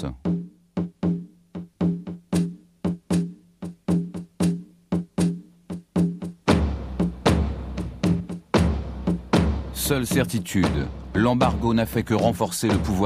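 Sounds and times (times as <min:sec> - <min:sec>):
drum strikes: 0:00.0 - 0:13.0.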